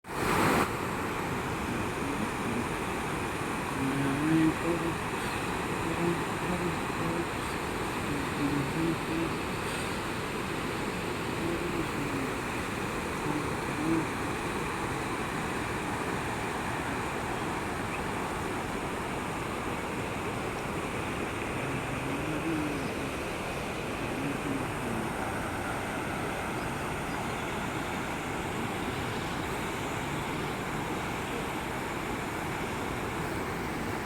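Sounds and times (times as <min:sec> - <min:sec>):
river rushing over bridge: 0:00.1 - 0:34.0.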